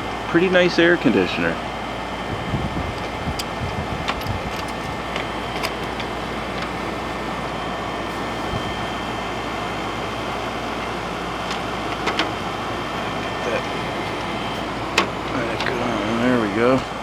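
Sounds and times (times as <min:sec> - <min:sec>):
air conditioner fan rushing: 0:00.0 - 0:17.0
faint whine: 0:00.0 - 0:17.0.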